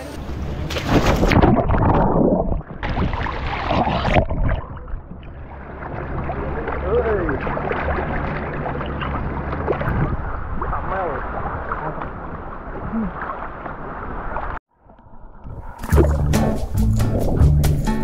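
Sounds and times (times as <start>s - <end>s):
sea water splashing: 0.1s - 14.6s, 15.5s - 17.8s.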